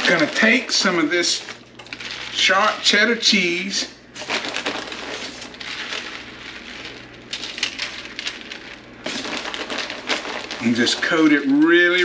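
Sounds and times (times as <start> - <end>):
tortilla chips rustling: 0.0 - 3.0, 4.1 - 12.0.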